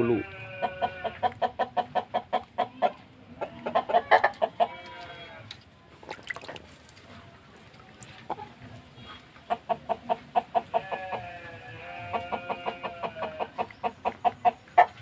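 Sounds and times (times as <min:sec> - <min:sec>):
chicken clucking: 0:00.0 - 0:05.6, 0:08.0 - 0:15.0.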